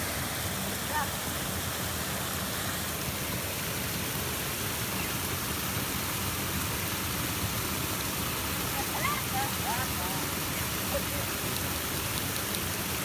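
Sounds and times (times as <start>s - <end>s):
water pouring over a ledge: 0.0s - 13.0s.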